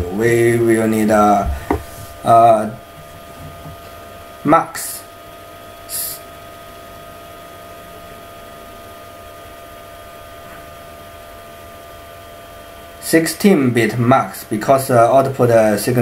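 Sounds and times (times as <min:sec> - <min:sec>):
faint electrical whine: 0:00.0 - 0:16.0.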